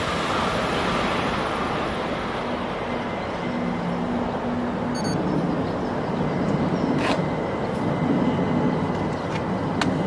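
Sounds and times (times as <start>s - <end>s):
electric train passing: 0.0s - 10.0s
wheels rumbling on rails: 0.0s - 10.0s.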